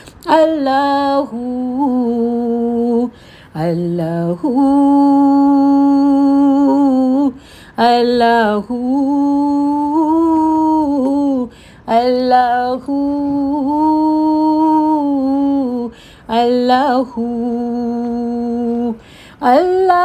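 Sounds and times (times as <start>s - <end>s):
solo voice singing: 0.0s - 20.0s.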